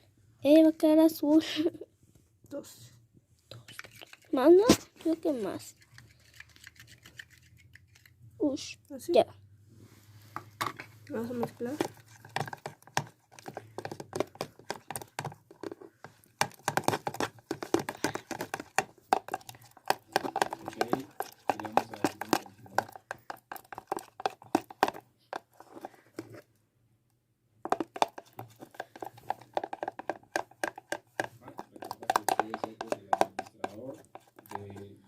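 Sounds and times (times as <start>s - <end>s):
spoon stirring sticky slime: 3.5s - 8.2s, 10.3s - 26.4s, 27.6s - 35.0s.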